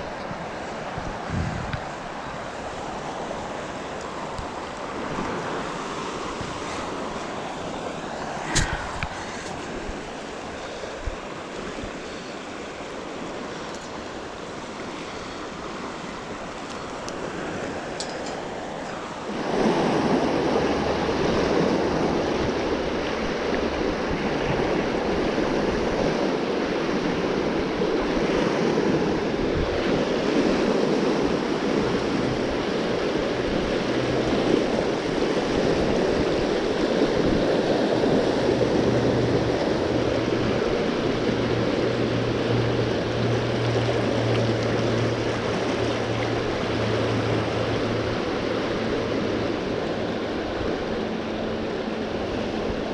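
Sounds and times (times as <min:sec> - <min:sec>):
water rushing through concrete channel: 0:00.0 - 0:52.9.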